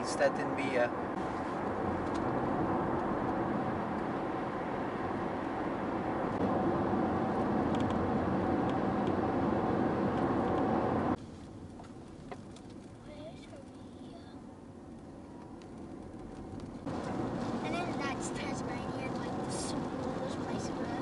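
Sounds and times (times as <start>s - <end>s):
road noise inside moving car: 0.0s - 21.0s.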